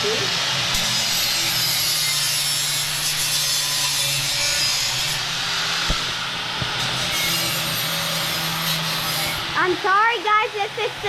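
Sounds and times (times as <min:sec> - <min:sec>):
grinder grinding steel: 0:00.0 - 0:10.8.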